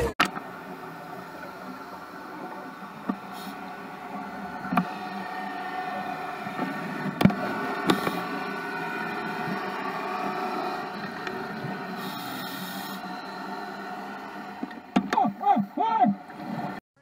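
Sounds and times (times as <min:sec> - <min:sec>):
underwater hum: 0:00.0 - 0:16.8.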